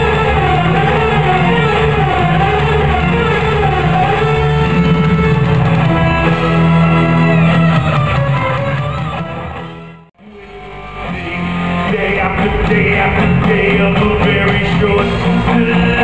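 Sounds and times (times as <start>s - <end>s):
electric guitar: 0.0s - 16.0s
symphonic rock music: 0.0s - 16.0s
violin: 0.0s - 16.0s.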